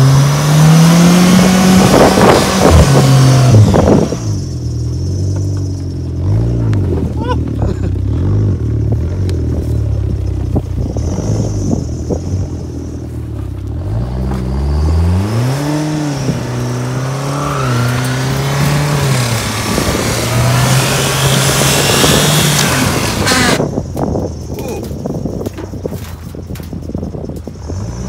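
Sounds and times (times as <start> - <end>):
car engine revving: 0.0 - 23.8
tyres spinning in dirt: 4.6 - 28.0.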